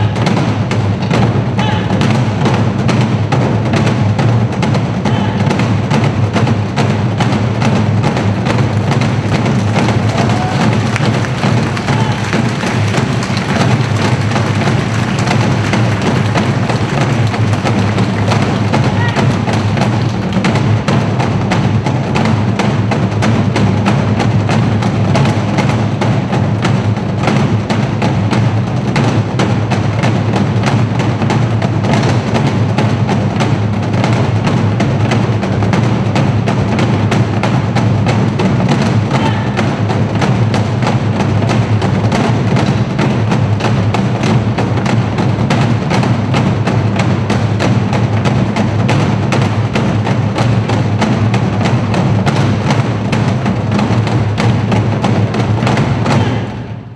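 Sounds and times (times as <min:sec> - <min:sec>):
barrel drums beaten fast: 0:00.0 - 0:56.9.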